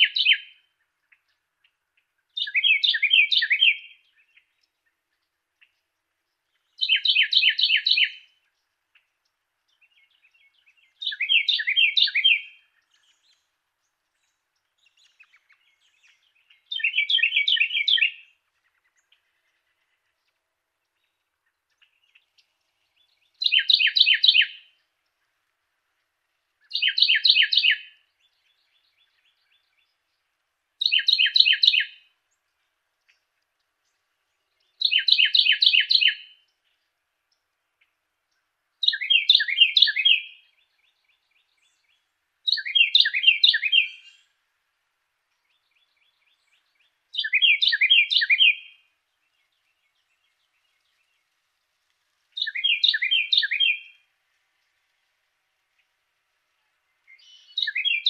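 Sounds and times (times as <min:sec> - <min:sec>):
wren singing: 0:00.0 - 0:58.0.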